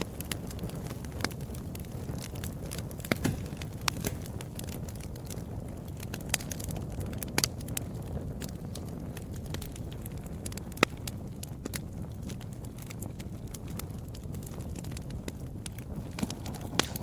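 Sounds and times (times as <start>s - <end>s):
fire crackles and pops: 0.0s - 17.0s
fire low rumble: 0.0s - 17.0s.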